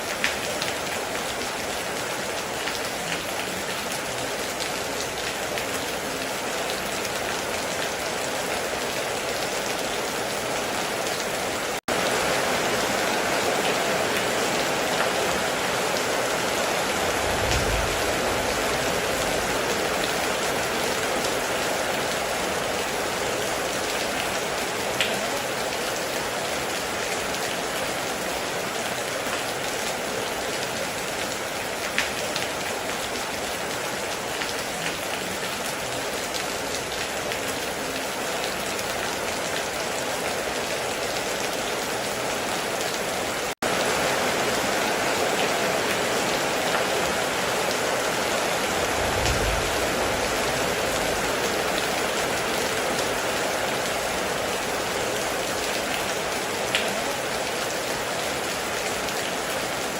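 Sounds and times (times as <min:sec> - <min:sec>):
heavy rain on metal roof: 0:00.0 - 0:59.9.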